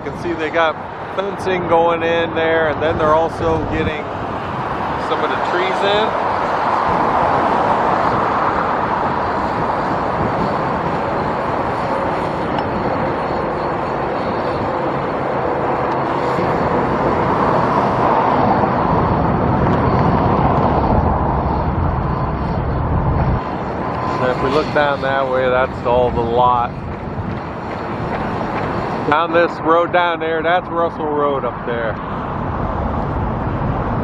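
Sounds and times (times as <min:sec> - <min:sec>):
heavy vehicle rumble: 0:00.0 - 0:34.0
vehicle engine and road noise: 0:00.0 - 0:34.0.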